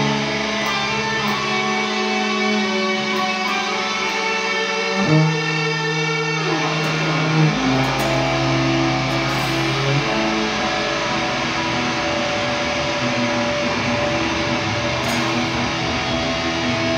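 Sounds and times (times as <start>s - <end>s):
electric guitar and bass music: 0.0s - 16.9s.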